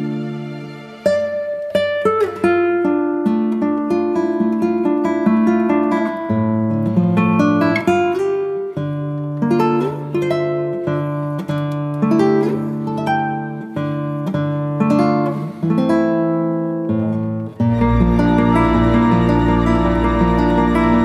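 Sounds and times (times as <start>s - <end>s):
acoustic guitar plucking melody: 0.0s - 21.0s.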